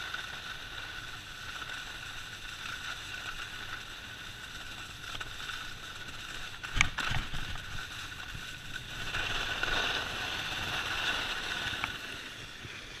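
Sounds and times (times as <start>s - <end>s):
skis scraping over snow: 0.0s - 13.0s.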